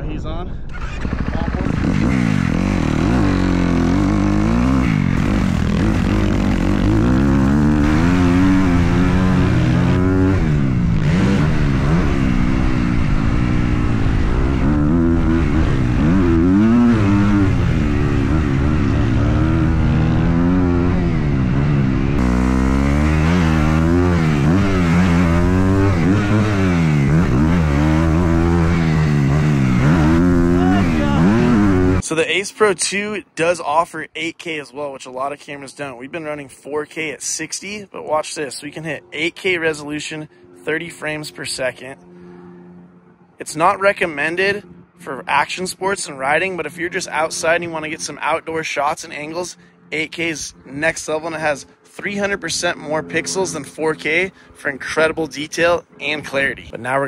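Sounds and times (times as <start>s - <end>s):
dirt bike engine revving: 0.7s - 32.7s, 38.5s - 56.6s.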